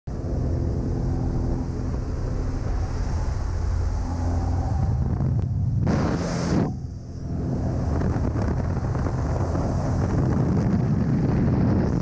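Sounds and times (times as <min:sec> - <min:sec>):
plane engine droning: 0:00.1 - 0:12.0
wind on microphone: 0:00.1 - 0:12.0.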